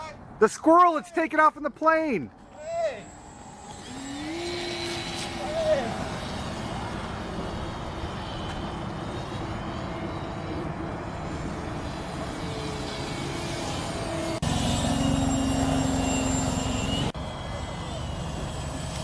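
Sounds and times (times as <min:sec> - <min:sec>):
model airplane motor droning: 0:02.4 - 0:19.0.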